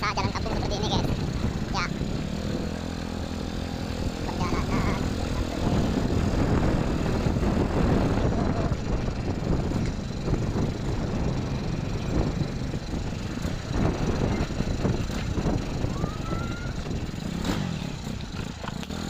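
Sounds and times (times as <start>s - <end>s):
vehicle driving on road: 0.0s - 19.0s.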